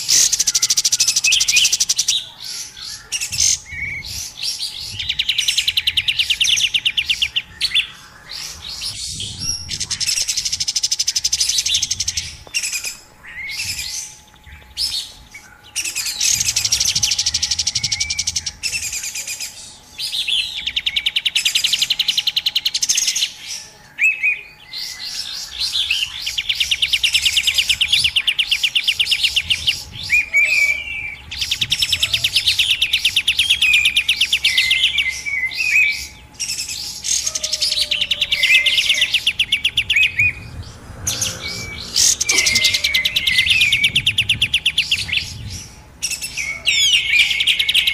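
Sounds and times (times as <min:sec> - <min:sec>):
fast bird trills: 0:00.0 - 0:23.4, 0:24.8 - 0:47.9.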